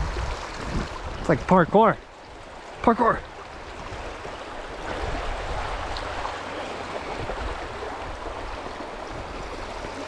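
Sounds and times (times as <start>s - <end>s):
creek water rushing over rocks: 0.0s - 10.0s.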